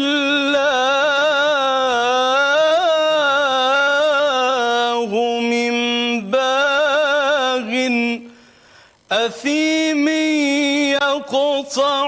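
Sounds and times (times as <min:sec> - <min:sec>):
man singing unaccompanied: 0:00.0 - 0:08.4, 0:09.1 - 0:12.0.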